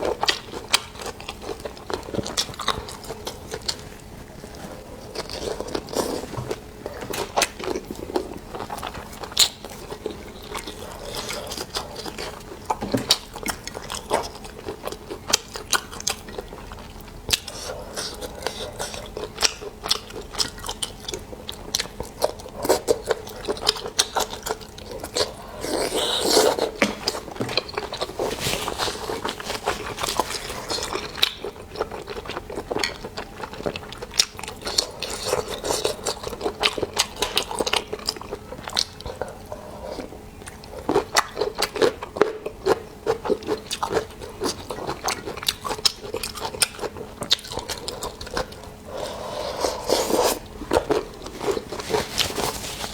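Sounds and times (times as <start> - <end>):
person chewing seafood: 0.0 - 52.9.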